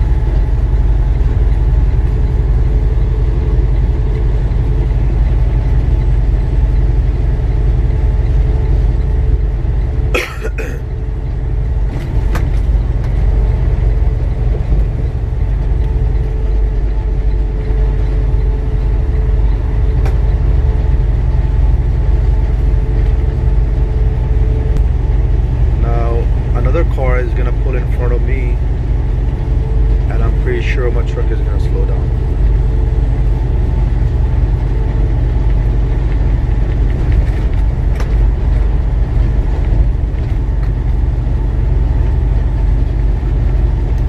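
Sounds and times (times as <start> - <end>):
faint steady drone: 0.0 - 44.0
truck engine and road rumble: 0.0 - 44.0.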